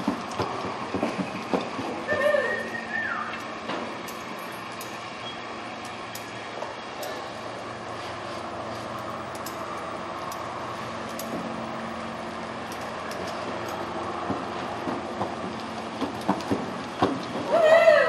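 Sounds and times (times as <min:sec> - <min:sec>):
hooves thudding on dirt: 0:00.0 - 0:18.0.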